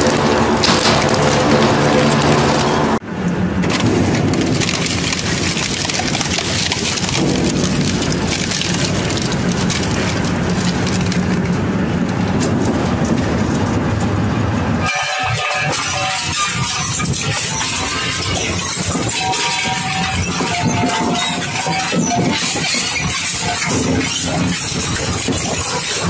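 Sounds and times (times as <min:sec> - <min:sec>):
shredder grinding metal rim: 0:00.0 - 0:03.0, 0:03.6 - 0:14.0, 0:14.8 - 0:26.0.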